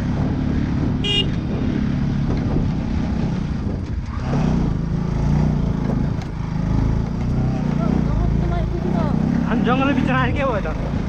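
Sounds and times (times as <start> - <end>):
wind rumble on microphone: 0.0 - 9.1
motorcycle engine running: 0.0 - 11.0.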